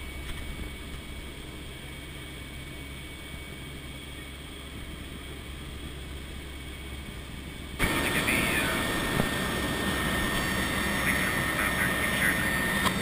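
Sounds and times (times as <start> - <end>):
thin steady whine: 0.0 - 13.0
turboprop engines droning: 0.0 - 13.0.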